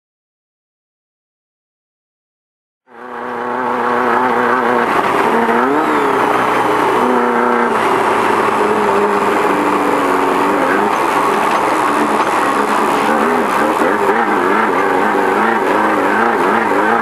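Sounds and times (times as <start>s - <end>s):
race car engine running hard: 2.9s - 17.0s
road noise: 2.9s - 17.0s.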